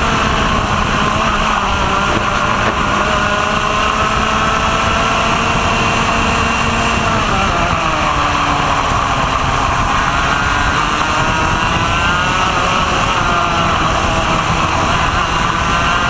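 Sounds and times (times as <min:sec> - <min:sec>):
kart two-stroke engine racing: 0:00.0 - 0:16.0.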